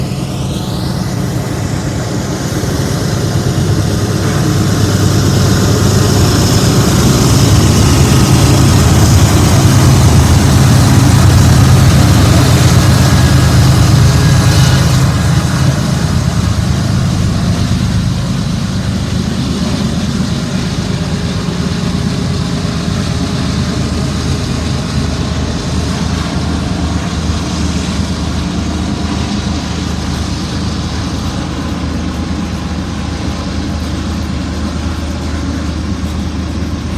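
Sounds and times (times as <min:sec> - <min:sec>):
locomotive engine drone: 0:00.0 - 0:36.9.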